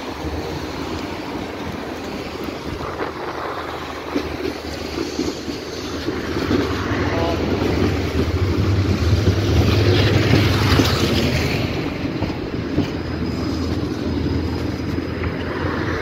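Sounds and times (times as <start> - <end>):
tram rolling past: 0.0 - 16.0.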